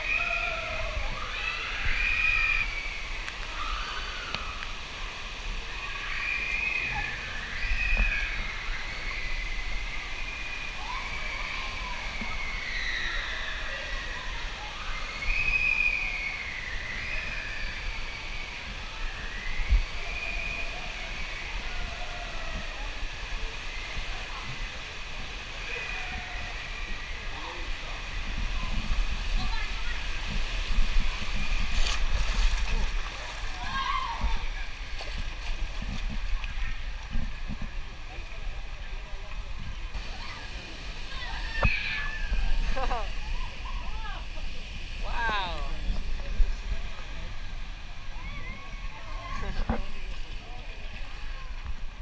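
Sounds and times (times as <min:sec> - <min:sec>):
water sloshing and hissing: 0:00.0 - 0:52.0.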